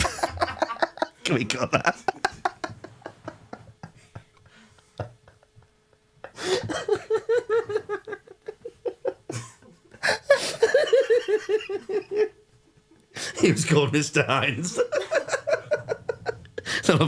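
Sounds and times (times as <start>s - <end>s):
men laughing: 0.0s - 13.5s, 14.6s - 17.0s.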